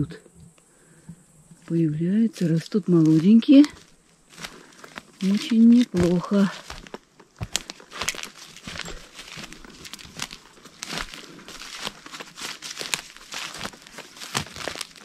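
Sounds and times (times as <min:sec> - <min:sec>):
footsteps crunching through undergrowth: 0:01.5 - 0:15.0.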